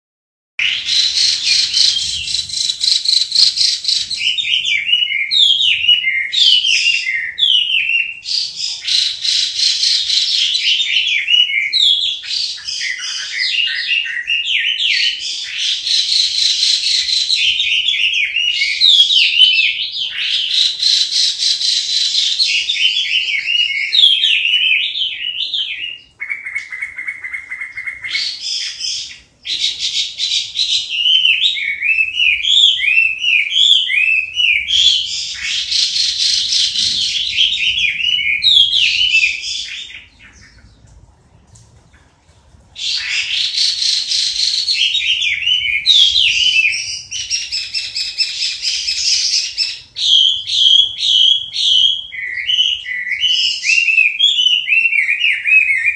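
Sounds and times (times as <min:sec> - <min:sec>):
bird trilling: 0:00.6 - 0:40.8, 0:42.8 - 0:55.9
bird whistling song: 0:00.6 - 0:40.8, 0:42.8 - 0:55.9.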